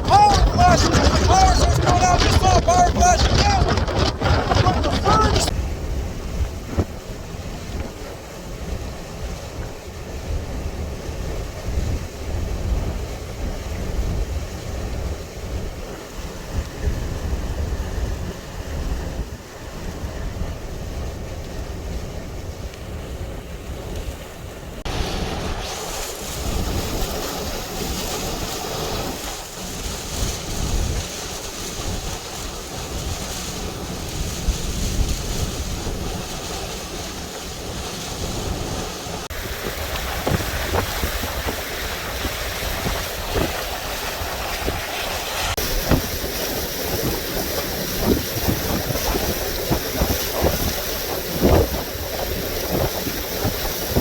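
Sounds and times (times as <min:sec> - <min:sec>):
strong wind buffeting microphone: 0:00.0 - 0:54.0.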